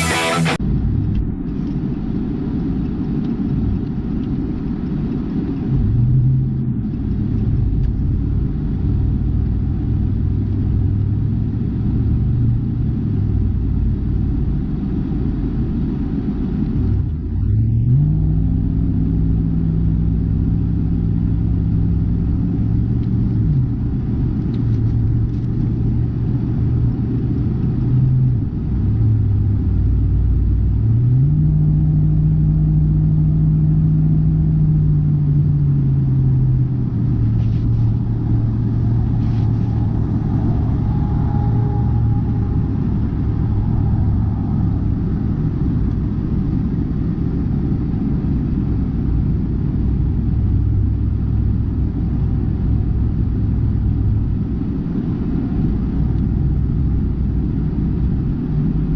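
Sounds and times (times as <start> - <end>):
car engine: 0.0 - 58.9
road rumble: 0.0 - 58.9.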